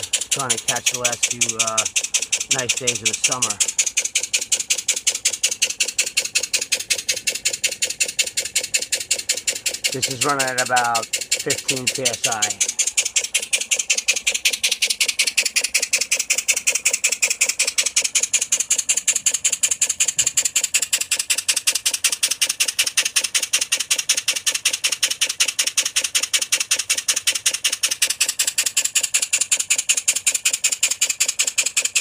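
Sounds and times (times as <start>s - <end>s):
steam engine exhaust puffs: 0.0s - 32.0s.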